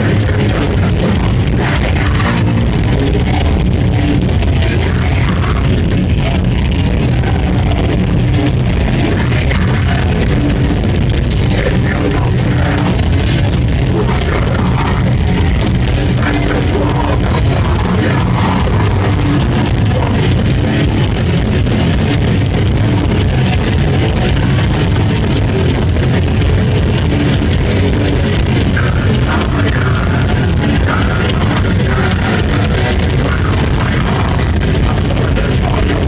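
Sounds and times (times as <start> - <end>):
death metal band playing live: 0.0 - 36.0.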